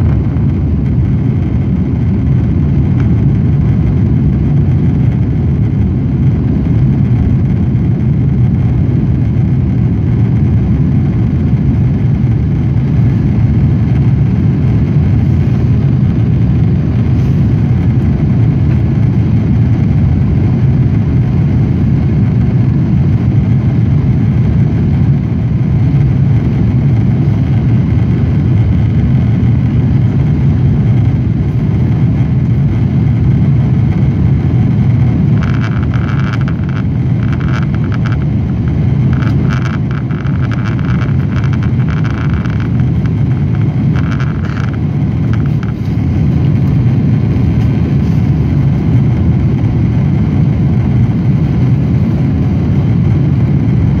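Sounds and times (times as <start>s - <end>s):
jet cabin rumble: 0.0s - 54.0s.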